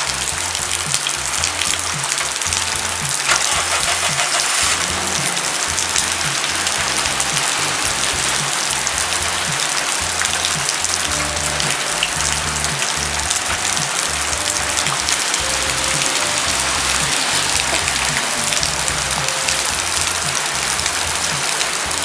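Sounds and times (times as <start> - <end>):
heavy rain hiss: 0.0 - 22.0
music with bass line: 0.0 - 22.0.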